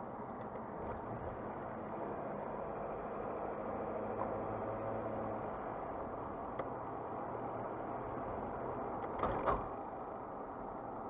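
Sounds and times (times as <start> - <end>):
engine and tyre drone inside car: 0.0 - 11.0.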